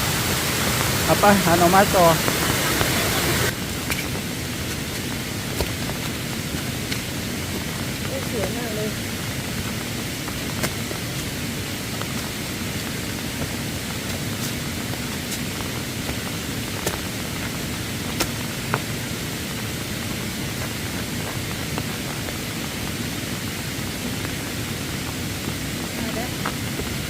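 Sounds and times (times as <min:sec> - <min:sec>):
stream rushing: 0:00.0 - 0:27.0.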